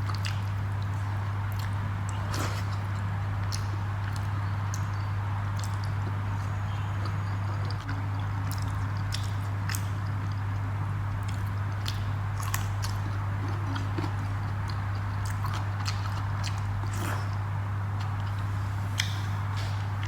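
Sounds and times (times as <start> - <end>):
person chewing food: 0.0 - 20.0
steady low hum: 0.0 - 20.0.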